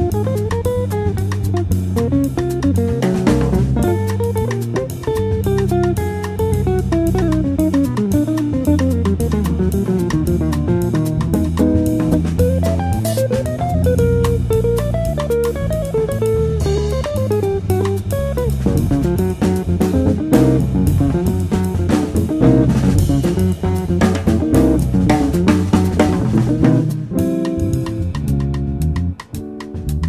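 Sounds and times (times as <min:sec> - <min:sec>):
instrumental rock music: 0:00.0 - 0:30.0.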